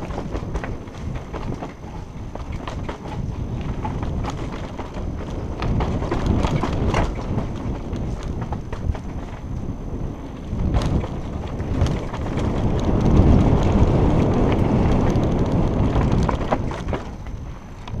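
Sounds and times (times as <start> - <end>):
bike clacks and rattles: 0.0 - 18.0
tyre noise on gravel: 0.0 - 18.0
wind rushing over microphone: 0.0 - 18.0.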